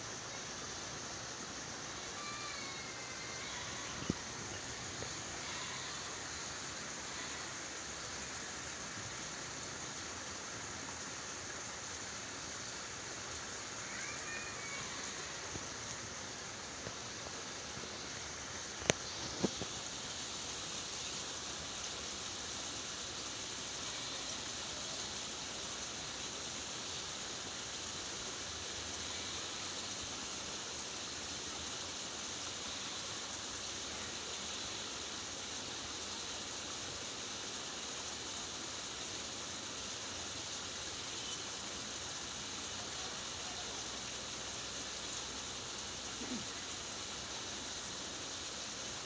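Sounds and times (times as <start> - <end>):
water hissing: 0.0 - 49.0.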